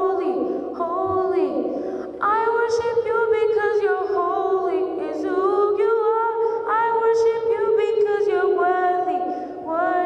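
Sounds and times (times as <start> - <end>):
person singing into a microphone: 0.0 - 10.0.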